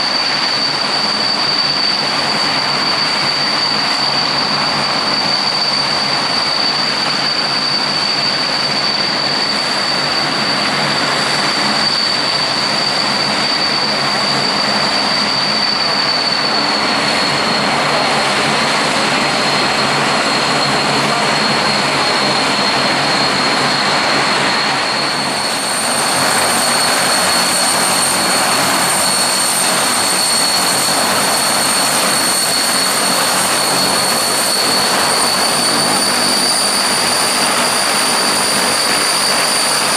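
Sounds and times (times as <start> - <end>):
jet engines roaring at high power: 0.0 - 39.9
turboprop aircraft engines whining: 0.0 - 39.9.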